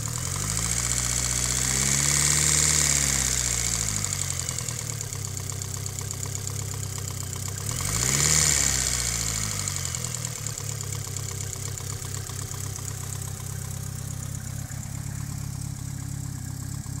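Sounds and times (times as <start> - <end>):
engine revving: 0.0 - 5.1, 7.5 - 17.0
car engine idling with ticking: 0.0 - 17.0.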